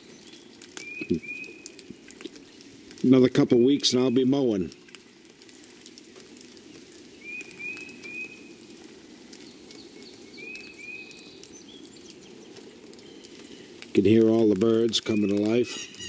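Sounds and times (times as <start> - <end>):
birds chirping: 0.0 - 4.8, 5.9 - 16.0.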